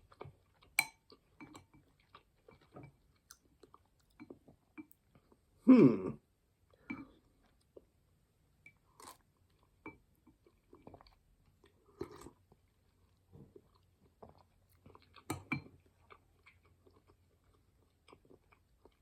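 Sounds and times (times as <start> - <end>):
person chewing soup: 0.0 - 5.6, 6.6 - 19.0.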